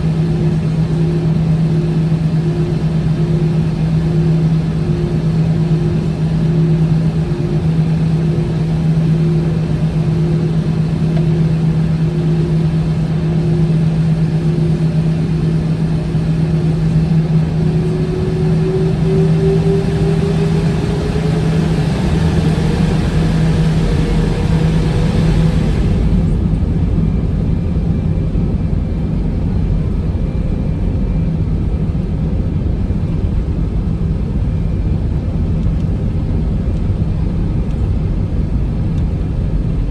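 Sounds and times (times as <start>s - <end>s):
jet engines humming and whining: 0.0s - 39.9s.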